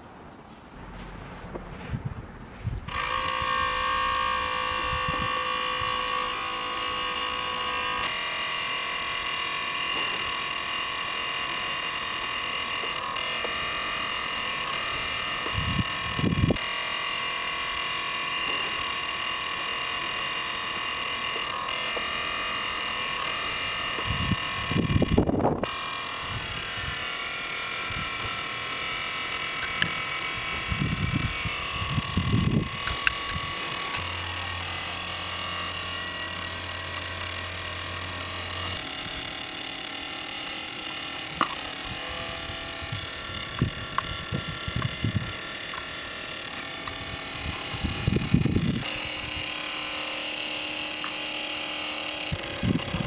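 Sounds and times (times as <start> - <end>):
compressor and fan whine: 0.0 - 53.0.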